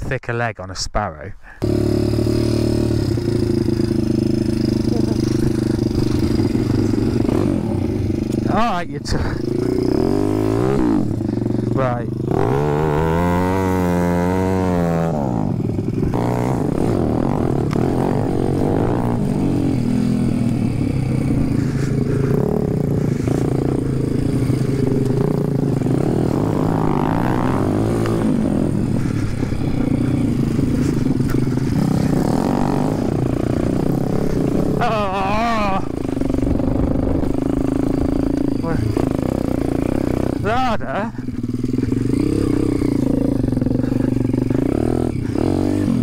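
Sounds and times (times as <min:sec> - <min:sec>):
motorbike engine revving: 0:01.6 - 0:46.0.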